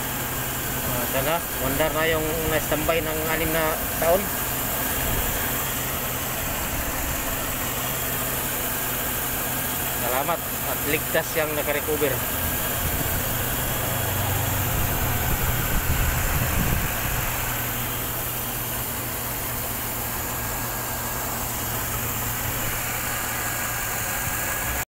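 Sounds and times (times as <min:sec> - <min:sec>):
car engine idling: 0:00.0 - 0:24.8.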